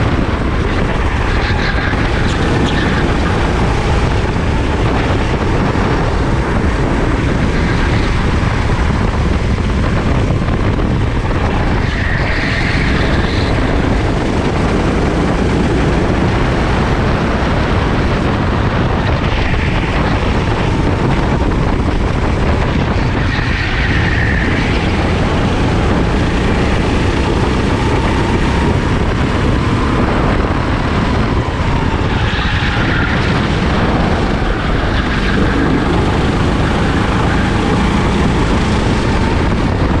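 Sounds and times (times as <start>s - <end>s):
kart engine running hard: 0.0s - 40.0s
wind on microphone: 0.0s - 40.0s.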